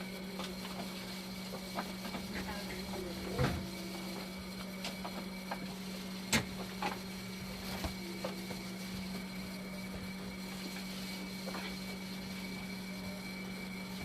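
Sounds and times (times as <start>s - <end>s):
faint high whine: 0.0s - 14.0s
machinery hum: 0.0s - 14.0s.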